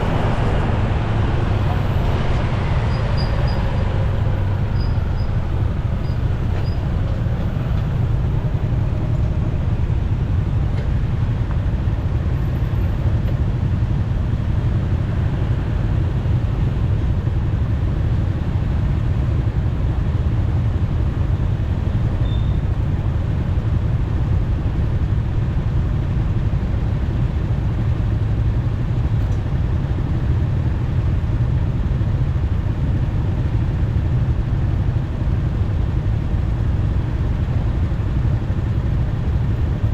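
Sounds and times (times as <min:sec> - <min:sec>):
motorcycle engine rumble: 0:00.0 - 0:39.9
road noise: 0:00.0 - 0:39.9.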